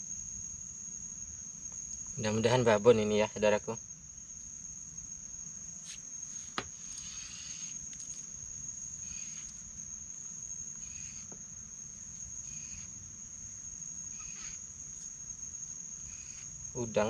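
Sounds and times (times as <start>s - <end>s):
insect steady high-pitched tone: 0.0s - 17.0s
lower insect call: 0.0s - 17.0s.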